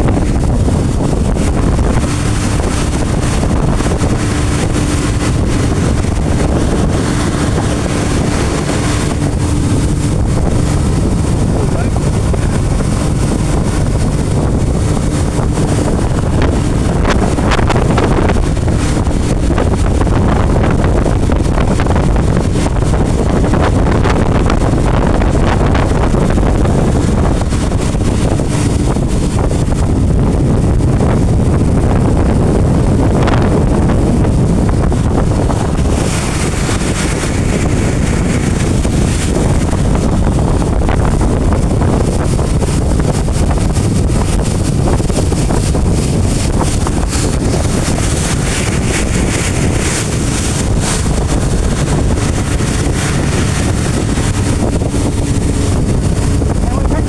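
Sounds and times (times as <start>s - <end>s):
boat motor droning: 0.0s - 57.0s
rushing water: 0.0s - 57.0s
wind buffeting microphone: 0.0s - 57.0s.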